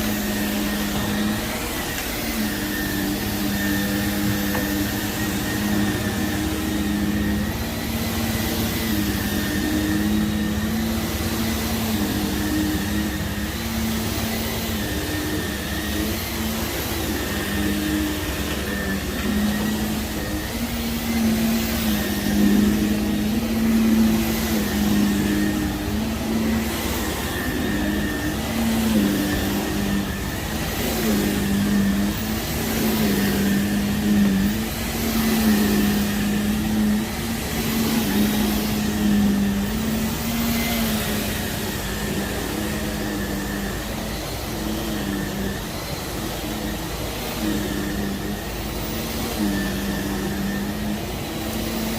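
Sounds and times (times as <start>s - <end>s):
vacuum cleaner on carpet: 0.0s - 51.9s.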